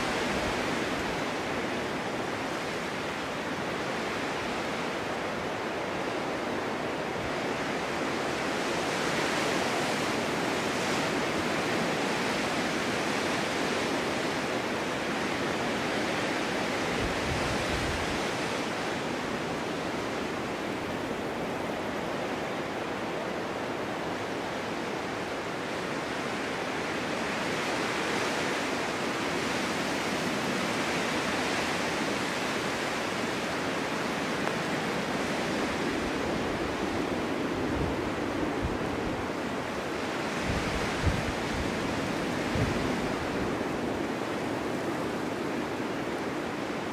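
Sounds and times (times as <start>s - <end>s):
snowstorm wind blowing: 0.0s - 46.9s.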